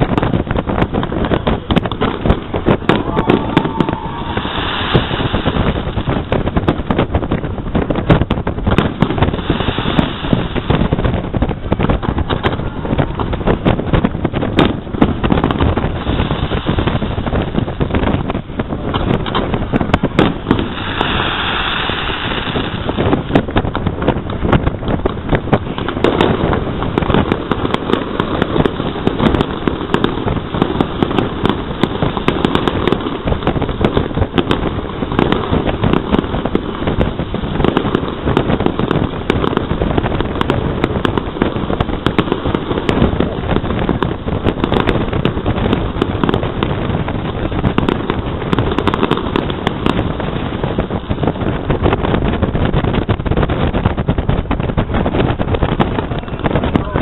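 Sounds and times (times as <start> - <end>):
firework hiss: 0.0 - 57.0
fireworks bangs and crackling: 0.0 - 57.0.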